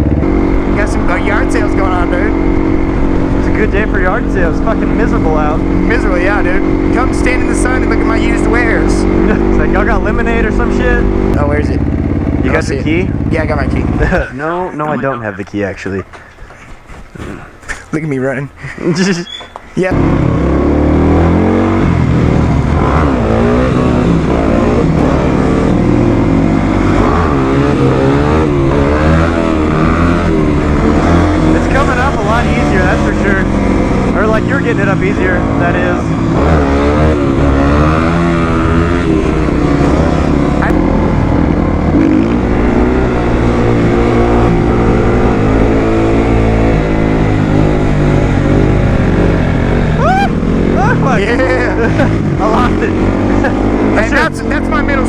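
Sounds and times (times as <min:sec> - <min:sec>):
motorcycle engine revving: 0:00.0 - 0:15.2, 0:19.0 - 0:55.0.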